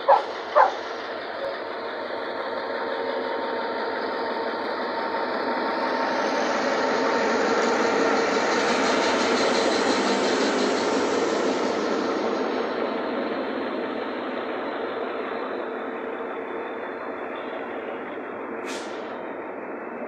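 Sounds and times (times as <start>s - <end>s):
diesel locomotive engine humming: 0.0s - 20.0s
train coaches passing: 0.0s - 20.0s.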